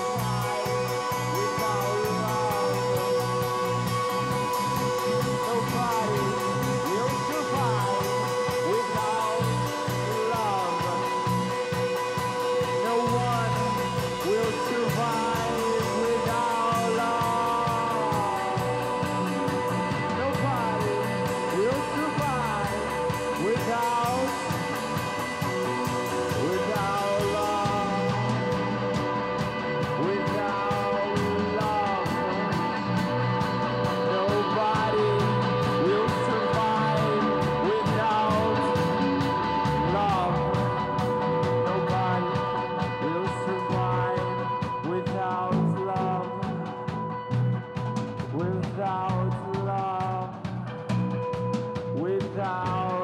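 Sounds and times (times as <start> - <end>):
electric guitar bending notes: 0.0 - 53.0
rock band playing live: 0.0 - 53.0.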